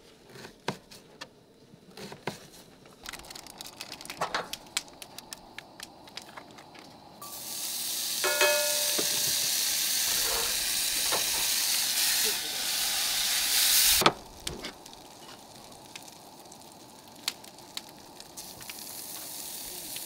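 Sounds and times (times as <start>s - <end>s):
gas stove burner hissing: 1.5s - 20.0s
vegetables crackling in a skillet: 1.9s - 20.0s.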